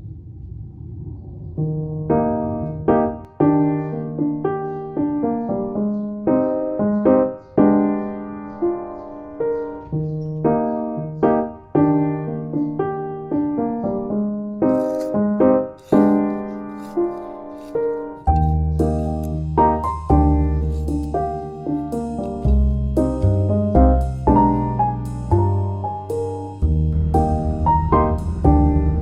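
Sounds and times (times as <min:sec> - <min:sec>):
gentle piano melody: 0:01.6 - 0:29.0.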